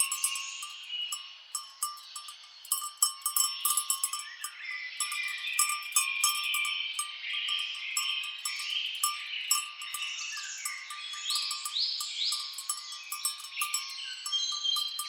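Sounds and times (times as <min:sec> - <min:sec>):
birds chirping and whistling: 0:00.0 - 0:15.0
cattle bells clinking: 0:00.0 - 0:15.0.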